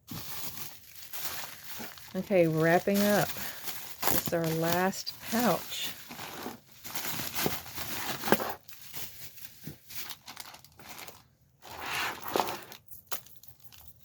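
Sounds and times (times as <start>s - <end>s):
pouch crinkling and rustling: 0.0s - 14.0s.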